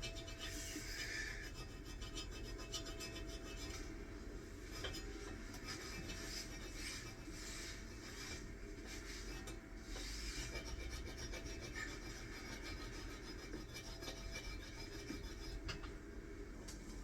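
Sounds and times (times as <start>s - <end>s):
hand file on metal: 0.0s - 3.9s, 4.6s - 15.9s.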